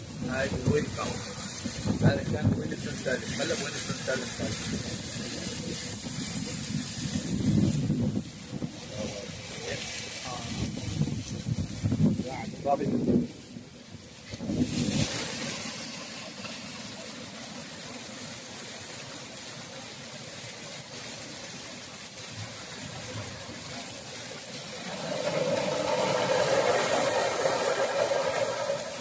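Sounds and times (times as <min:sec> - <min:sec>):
heavy rain hiss: 0:00.0 - 0:29.0
running floodwater rushing: 0:00.0 - 0:29.0.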